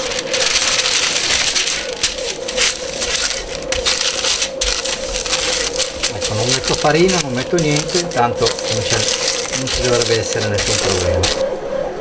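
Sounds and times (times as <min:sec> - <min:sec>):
baking paper crinkling: 0:00.0 - 0:11.5
bread machine humming: 0:00.0 - 0:12.0.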